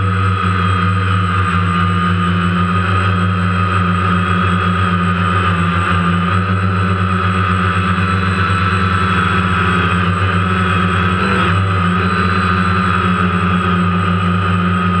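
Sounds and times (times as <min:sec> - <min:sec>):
drone motors humming and whining: 0:00.0 - 0:15.0.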